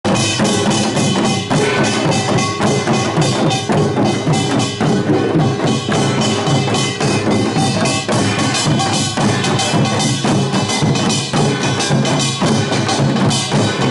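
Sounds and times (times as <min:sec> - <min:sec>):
drums beating fast: 0:00.0 - 0:13.9
metal gongs clanging: 0:00.1 - 0:13.9.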